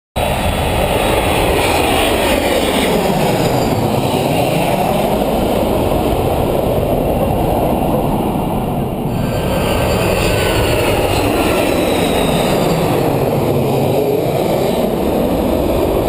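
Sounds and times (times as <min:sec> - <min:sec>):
jet engine rumble overhead: 0:00.2 - 0:16.0.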